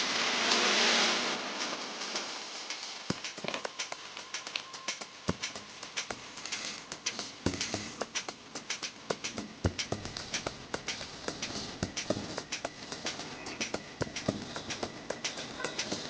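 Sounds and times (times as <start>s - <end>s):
rapid sharp clicks and taps: 2.7s - 16.0s.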